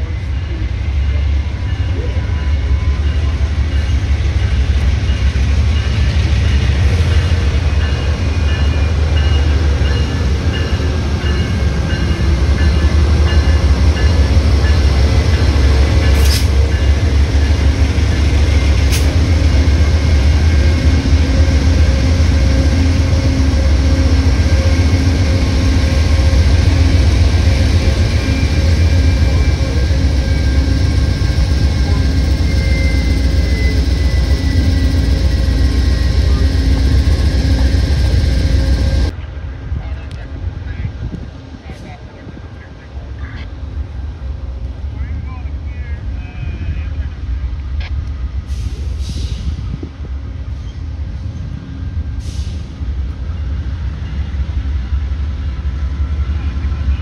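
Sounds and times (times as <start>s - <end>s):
diesel locomotive rumble: 0.0s - 57.0s
train cars rolling on rails: 0.0s - 57.0s.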